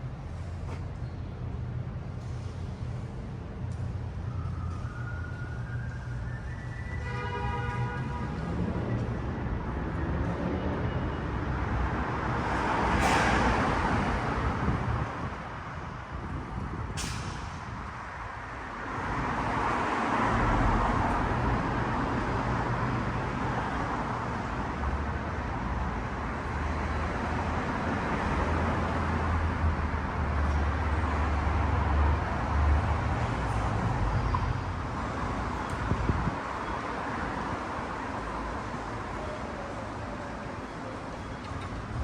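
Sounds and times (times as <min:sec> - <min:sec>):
road noise hiss: 0:00.0 - 0:42.0.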